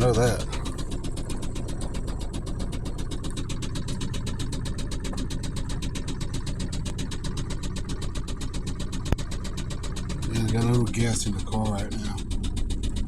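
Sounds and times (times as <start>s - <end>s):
engine idling with rapid knock: 0.0s - 13.0s.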